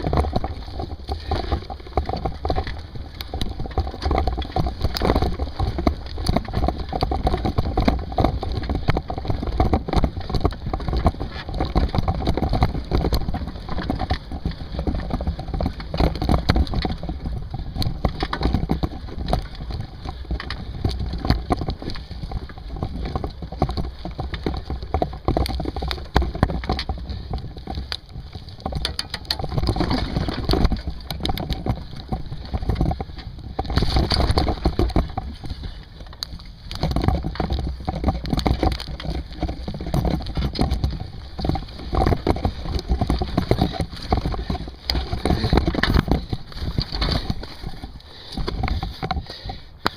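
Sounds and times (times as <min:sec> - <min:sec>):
bike clattering and rattling: 0:00.0 - 0:49.9
wind rumble on microphone: 0:00.0 - 0:49.9.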